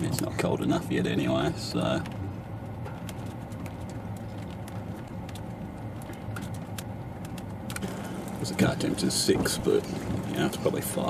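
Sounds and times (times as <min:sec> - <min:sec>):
hail ticking on a car: 0:00.0 - 0:11.0
steady low hum: 0:00.0 - 0:11.0.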